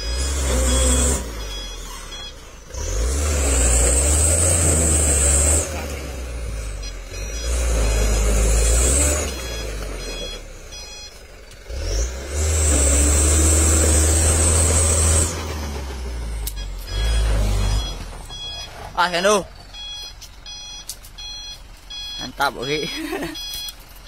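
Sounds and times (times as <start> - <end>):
diesel truck engine working: 0.0 - 24.0.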